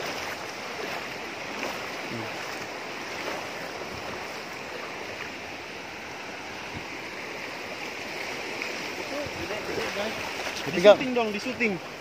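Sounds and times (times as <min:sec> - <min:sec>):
sea surf breaking: 0:00.0 - 0:05.3, 0:06.7 - 0:12.0.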